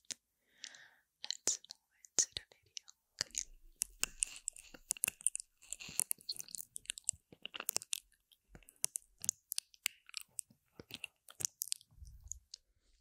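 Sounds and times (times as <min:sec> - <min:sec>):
wet lip smacks and clicks: 0:00.0 - 0:12.7.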